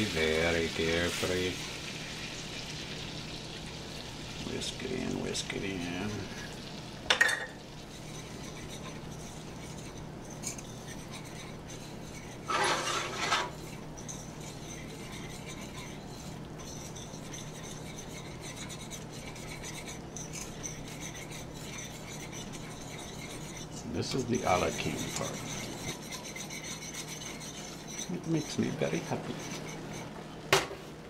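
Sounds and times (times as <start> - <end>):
wire whisk scraping a pan: 0.0 - 2.4, 4.4 - 30.2.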